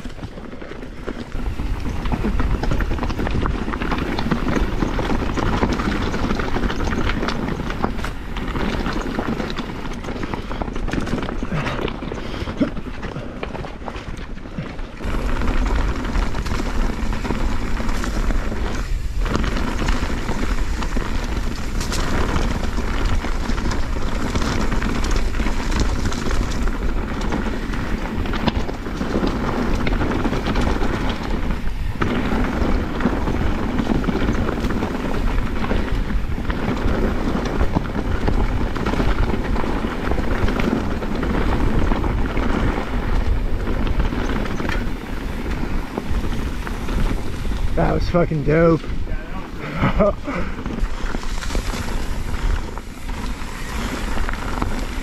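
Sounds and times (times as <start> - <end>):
bike clattering over bumps: 0.0 - 55.0
tyres rumbling over dirt: 0.0 - 55.0
wind rushing over microphone: 0.0 - 55.0.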